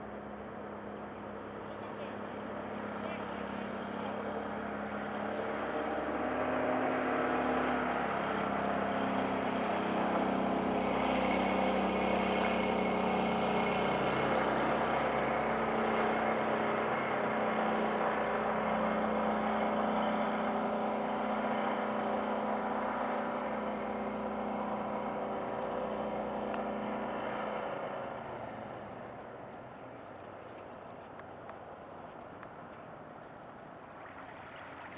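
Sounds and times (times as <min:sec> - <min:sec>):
boat motor running: 0:00.0 - 0:34.9.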